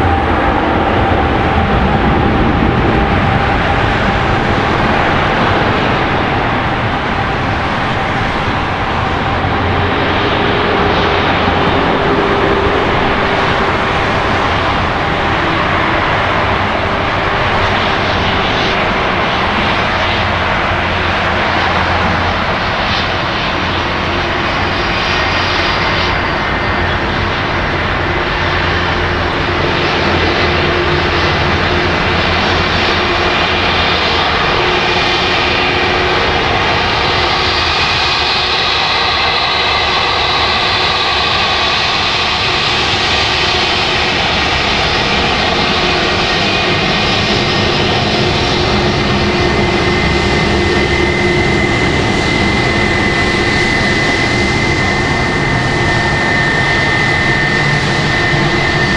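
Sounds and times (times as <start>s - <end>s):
jet engines roaring with whine: 0.0s - 58.9s.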